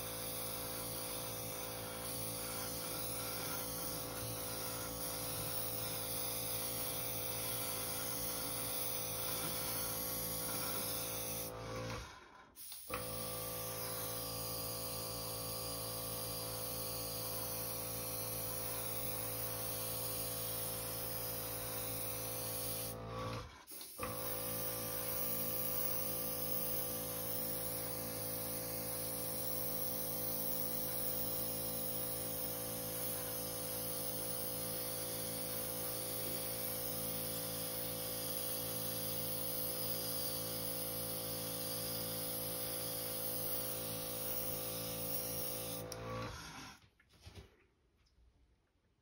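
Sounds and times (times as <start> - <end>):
airbrush nozzle hissing: 0.0 - 11.5, 12.6 - 15.7, 16.3 - 23.0, 23.7 - 45.9
airbrush compressor humming: 0.0 - 46.6.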